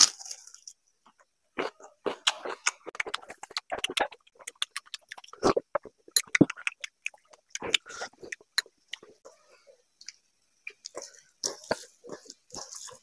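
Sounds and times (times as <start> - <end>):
wet chewing and lip-smacking: 1.1 - 9.3, 10.0 - 13.0.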